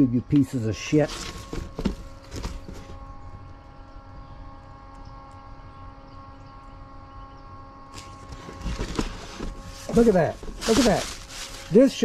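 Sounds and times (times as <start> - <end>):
steady hum of even tones: 0.0 - 12.0.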